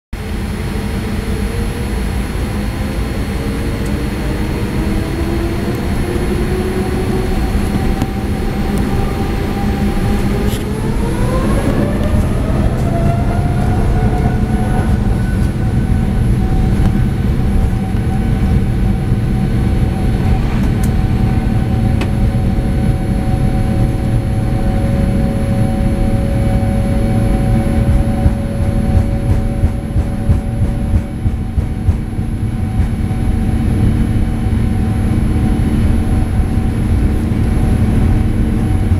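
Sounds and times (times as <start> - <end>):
jet engine rumble in cabin: 0.2 - 38.9
jet engine whine: 0.2 - 38.9.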